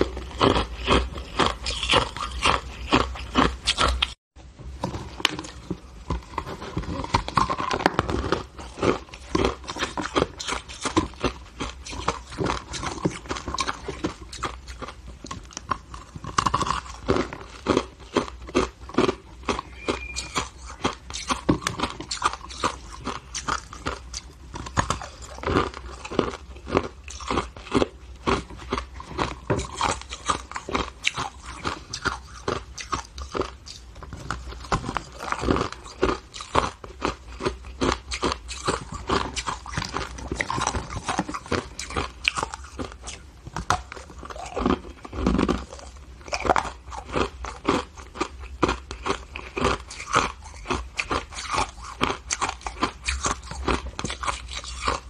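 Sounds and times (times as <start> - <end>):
person chewing crunchy ice: 0.0 - 4.2, 5.2 - 55.0.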